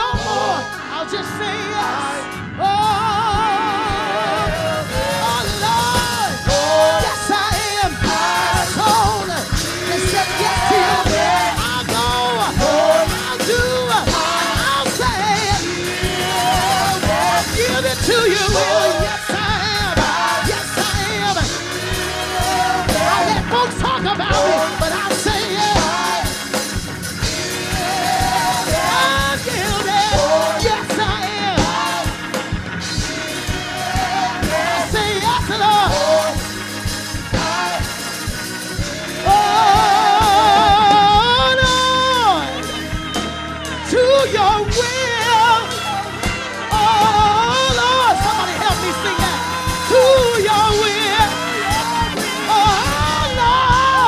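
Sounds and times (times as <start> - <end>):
solo voice singing gospel: 0.0 - 54.0
sustained accompaniment: 0.0 - 54.0.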